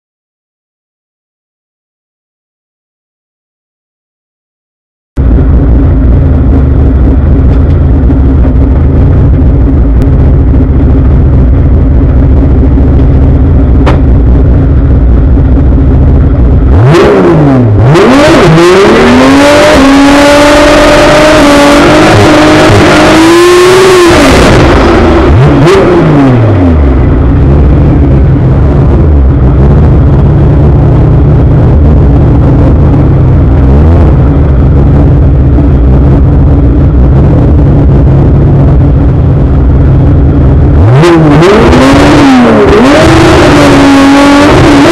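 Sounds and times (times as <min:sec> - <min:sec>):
race car engine rumbling and revving: 0:05.2 - 0:44.9.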